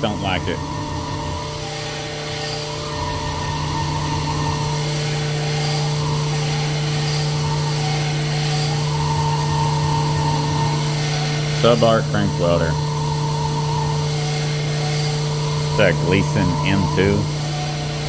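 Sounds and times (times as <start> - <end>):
hone stroking tone: 0.0 - 18.0
honing machine motor hum: 0.0 - 18.0.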